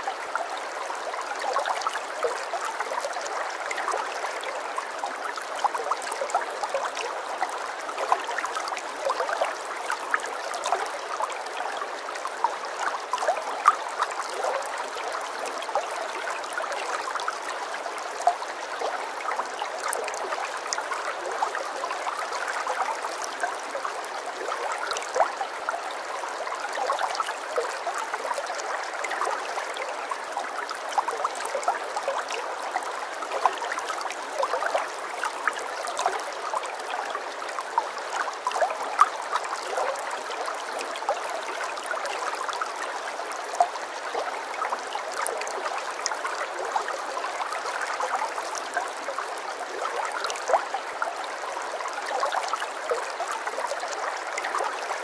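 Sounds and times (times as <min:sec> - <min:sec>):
small water splashes and plinks: 0:00.0 - 0:55.0
water trickling and gurgling: 0:00.0 - 0:55.0.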